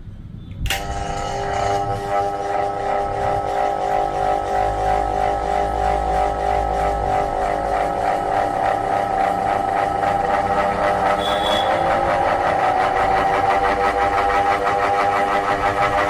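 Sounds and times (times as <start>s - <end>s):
ceiling fan humming: 0.6s - 16.0s.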